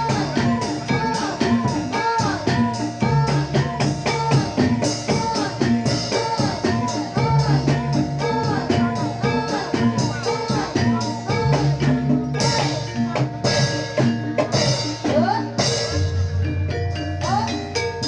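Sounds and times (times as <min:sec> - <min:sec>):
repeating melodic line: 0:00.0 - 0:18.0
struck percussion beat: 0:00.0 - 0:18.0.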